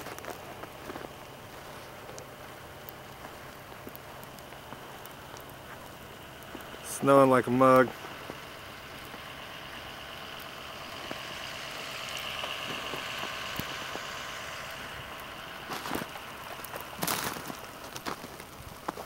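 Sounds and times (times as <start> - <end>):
footsteps crunching in snow: 0.0 - 7.3, 7.9 - 19.0
steady outdoor hiss: 0.0 - 19.0.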